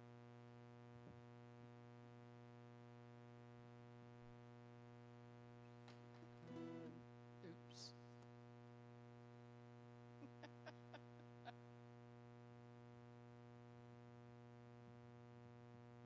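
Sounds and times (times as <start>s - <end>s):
electrical mains hum: 0.5s - 16.0s.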